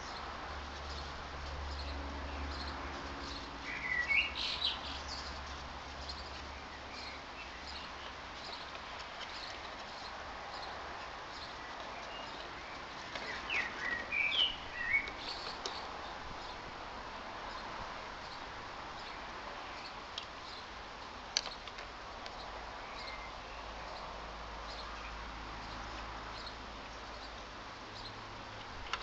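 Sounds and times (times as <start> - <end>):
small birds chirping: 0.0 - 29.0
steady low background noise: 0.0 - 29.0.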